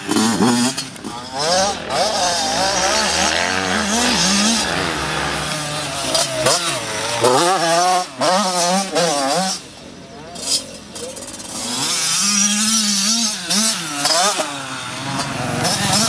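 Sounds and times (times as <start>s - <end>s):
dirt bike engine revving: 0.0s - 9.8s, 10.4s - 16.0s.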